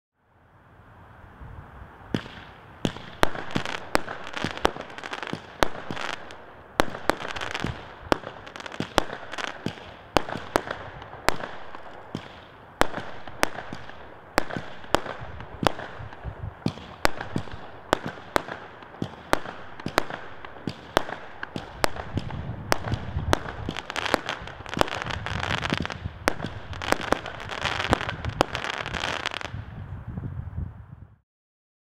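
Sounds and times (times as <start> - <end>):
firework crackling: 2.0 - 29.8
firework bangs: 2.1 - 29.6.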